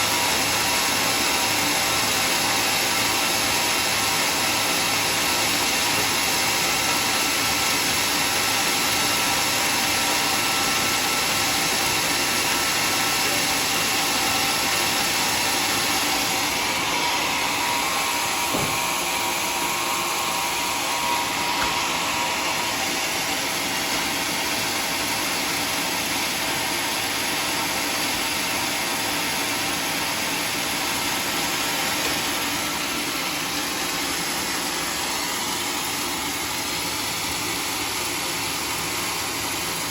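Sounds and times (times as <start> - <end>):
band saw machinery running: 0.0 - 39.9.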